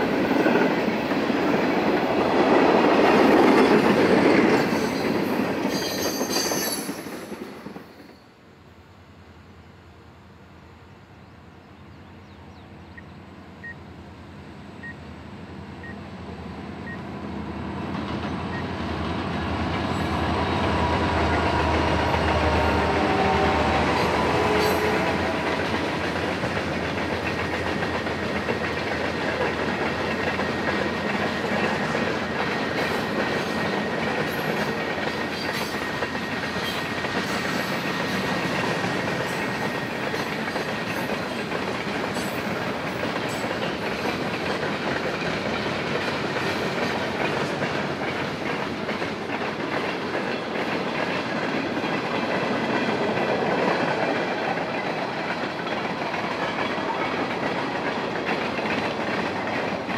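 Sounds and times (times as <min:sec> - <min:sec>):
train wheels clicking over rails: 0:00.0 - 0:08.3, 0:16.8 - 0:59.9
diesel locomotive engine rumble: 0:08.7 - 0:59.9.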